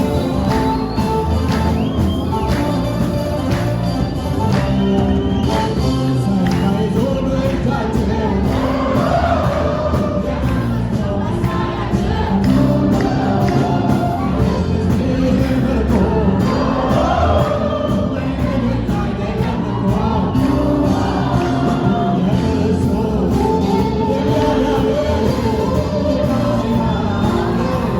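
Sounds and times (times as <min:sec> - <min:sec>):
choir singing: 0:00.0 - 0:27.9
instrumental backing with beat: 0:00.0 - 0:27.9.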